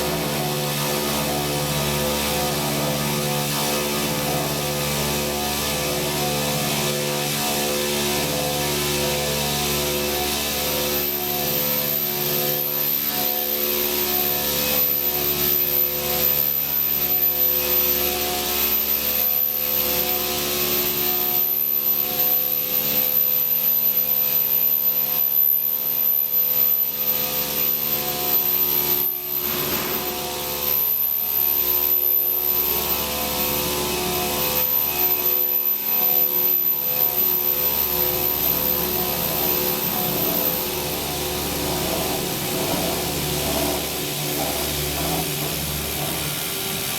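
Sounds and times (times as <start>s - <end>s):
circular saw cutting metal: 0.0s - 46.9s.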